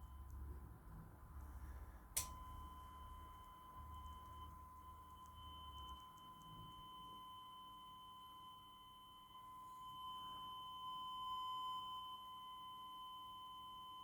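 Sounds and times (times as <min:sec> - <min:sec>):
sine test tone: 0:00.0 - 0:01.0, 0:02.2 - 0:14.0.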